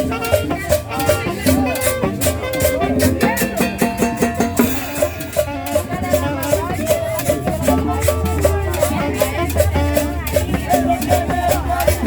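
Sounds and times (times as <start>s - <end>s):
fast shaker rhythm: 0.0s - 12.0s
latin dance music: 0.0s - 12.0s.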